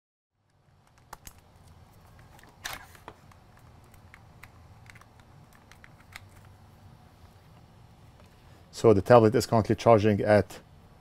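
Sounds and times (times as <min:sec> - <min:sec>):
steady low hum: 0:00.4 - 0:11.0.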